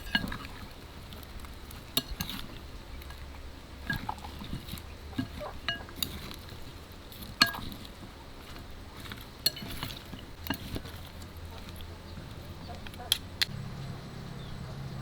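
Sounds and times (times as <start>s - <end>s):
utensils and dishes clinking: 0.0s - 13.1s
low steady hum: 0.0s - 15.0s.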